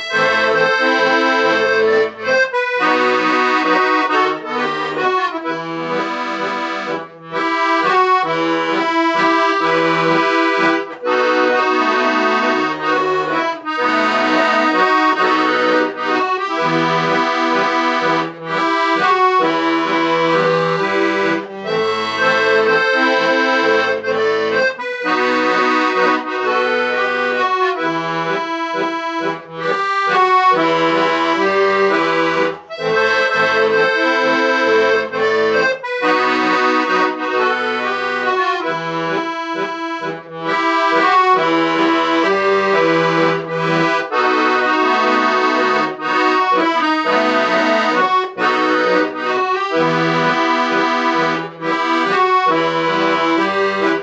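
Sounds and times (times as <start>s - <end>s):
accordion playing slow melody: 0.0s - 54.0s.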